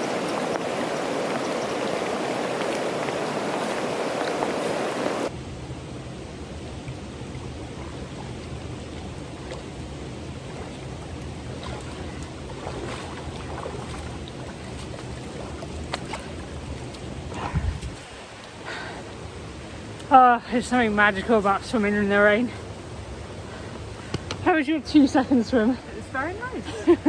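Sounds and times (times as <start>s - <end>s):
low rumble of moving water: 0.0s - 27.0s
rushing river water: 0.0s - 27.0s.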